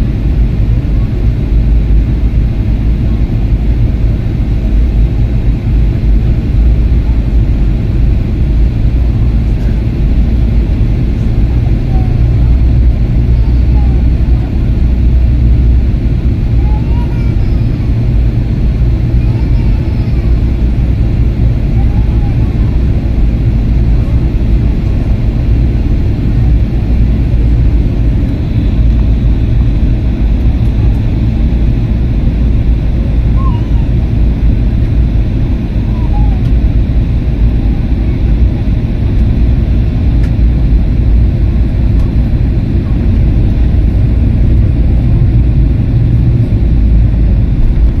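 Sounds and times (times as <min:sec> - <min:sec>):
airliner engines droning: 0:00.0 - 0:48.0.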